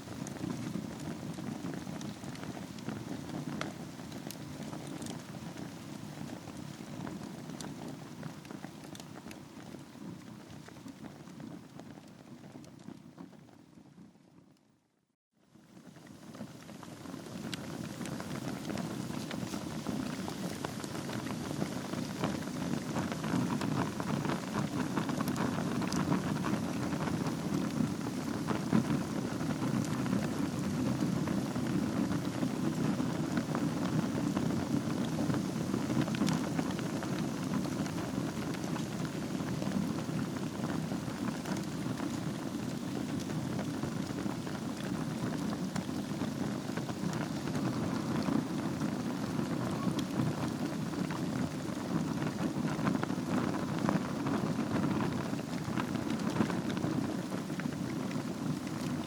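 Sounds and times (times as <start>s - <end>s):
fire rushing in fireplace: 0.0s - 14.0s, 15.7s - 59.0s
wood fire crackling and popping: 0.0s - 14.1s, 15.8s - 59.0s.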